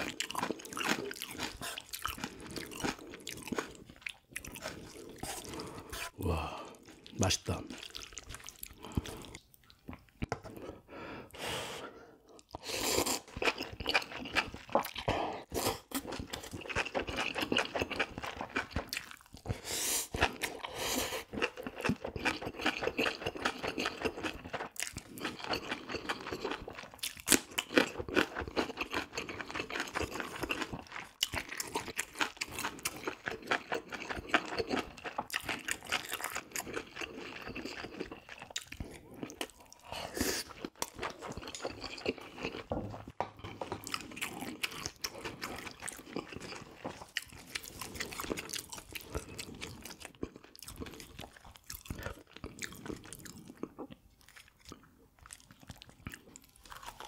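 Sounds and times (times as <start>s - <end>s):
chewing and crunching food: 0.0s - 11.4s, 12.2s - 57.0s.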